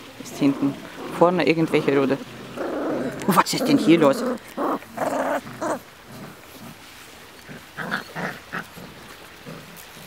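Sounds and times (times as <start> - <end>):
puppies play-growling and grunting: 0.3 - 10.0.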